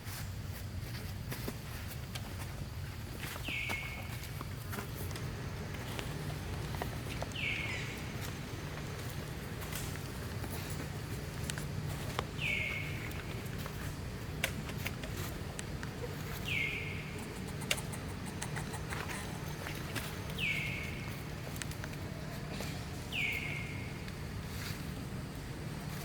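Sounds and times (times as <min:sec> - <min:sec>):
steady low hum: 0:00.0 - 0:26.0
light clicks and rustles: 0:00.1 - 0:23.2.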